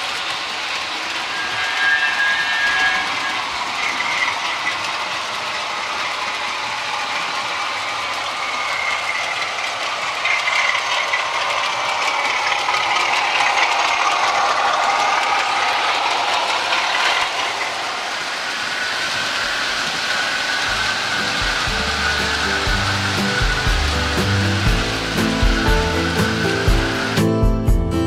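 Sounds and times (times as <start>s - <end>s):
model train wheels clattering: 0.0s - 27.3s
motor whine: 0.1s - 27.5s.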